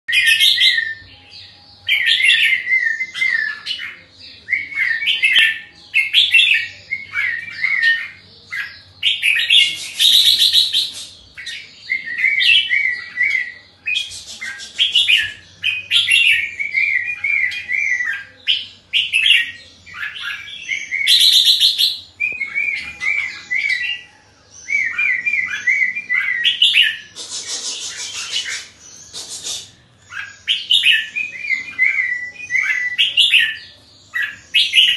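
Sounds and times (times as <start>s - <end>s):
bird singing chirpy phrases: 0.1s - 34.9s.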